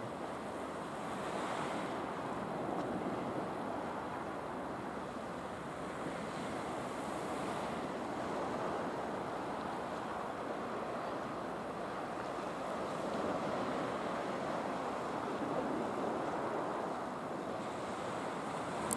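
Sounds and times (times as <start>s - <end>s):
surf washing over rocks: 0.0s - 18.9s.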